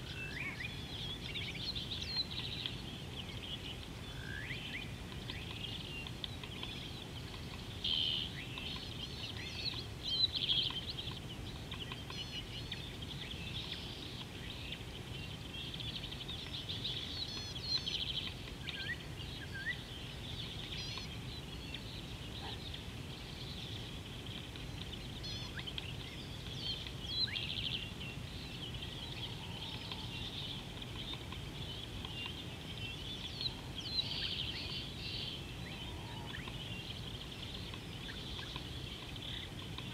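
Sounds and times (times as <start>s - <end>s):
wild birds chirping and trilling: 0.0s - 39.9s.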